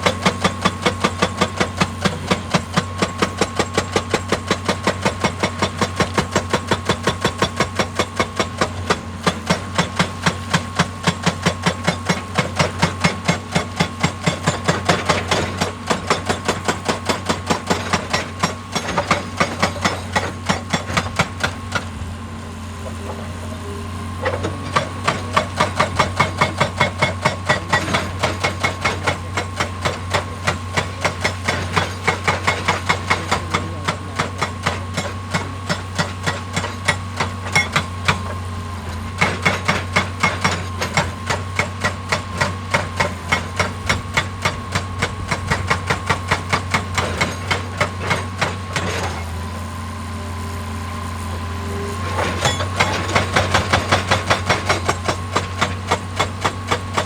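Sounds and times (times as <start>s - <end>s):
diesel engine running: 0.0s - 57.0s
hydraulic rock breaker pounding: 0.0s - 57.0s.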